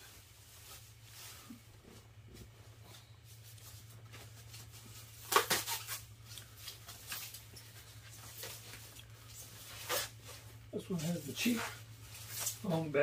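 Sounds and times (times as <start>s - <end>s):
foam bag rustling and crinkling: 0.0s - 13.0s
steady low hum: 0.0s - 13.0s.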